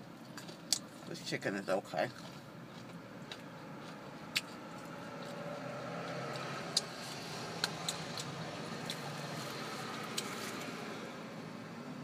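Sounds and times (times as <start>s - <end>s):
vehicle hum inside car: 0.0s - 12.0s.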